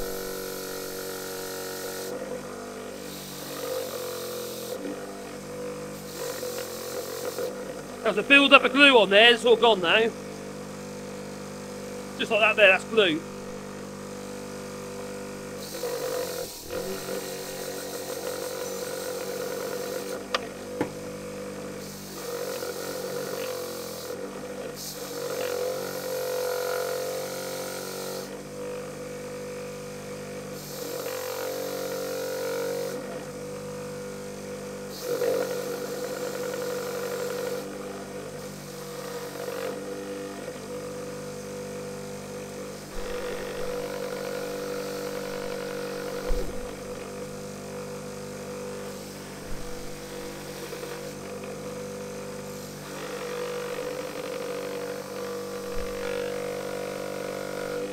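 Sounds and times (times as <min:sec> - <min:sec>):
wire wheel motor hum: 0:00.0 - 0:57.9.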